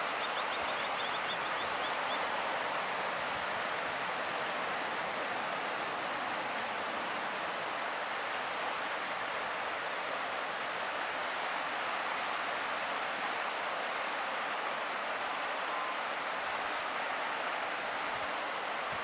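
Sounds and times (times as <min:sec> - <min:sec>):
splashing rushing water: 0:00.0 - 0:19.0.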